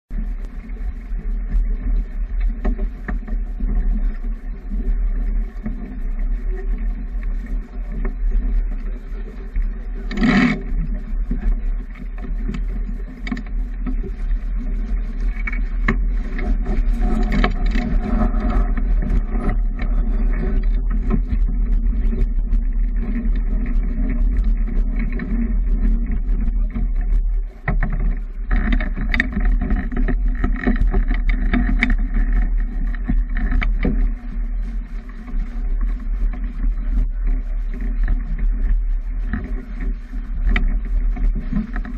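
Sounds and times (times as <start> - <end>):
water rushing along hull: 0.1 - 41.9
wind buffeting microphone: 0.1 - 41.9.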